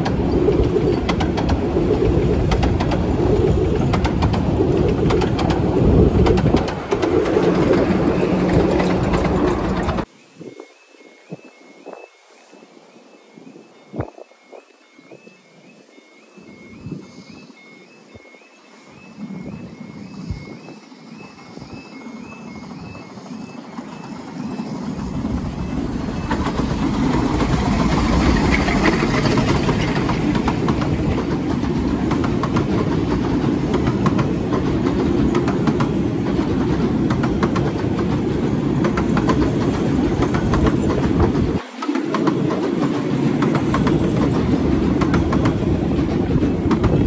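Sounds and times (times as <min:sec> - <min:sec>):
miniature train rumbling past: 0:00.0 - 0:10.1, 0:18.4 - 0:47.0
wheels clickety-clack over rail joints: 0:00.0 - 0:10.1, 0:19.3 - 0:47.0.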